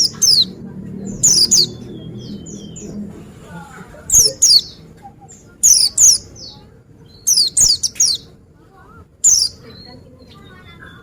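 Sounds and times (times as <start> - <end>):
soft bird chirps: 0.0 - 3.1, 4.1 - 8.4, 9.2 - 11.0.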